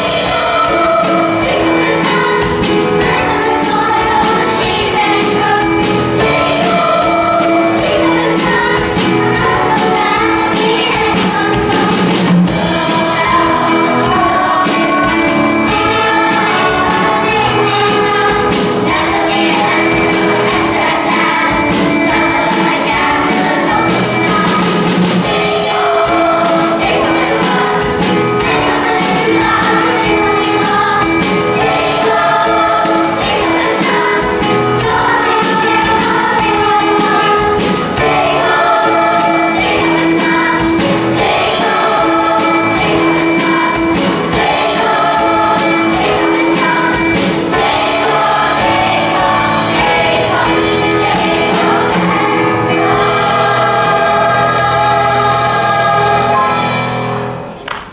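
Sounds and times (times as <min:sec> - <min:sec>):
children's choir singing: 0:00.0 - 0:57.9
instrumental accompaniment: 0:00.0 - 0:57.9.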